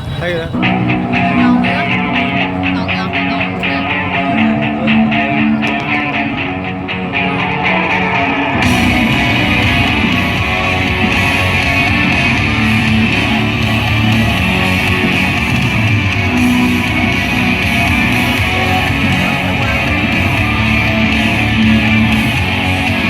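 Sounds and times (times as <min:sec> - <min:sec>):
rock music with guitar: 0:00.0 - 0:23.0.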